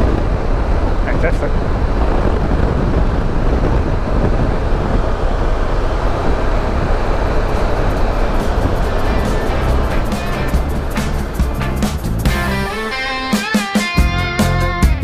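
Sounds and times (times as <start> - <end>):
motorcycle engine and wind: 0.0 - 13.4.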